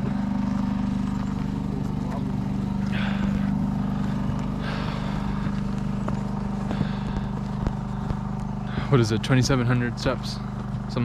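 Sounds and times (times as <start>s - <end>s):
engine idling hum: 0.0s - 11.0s.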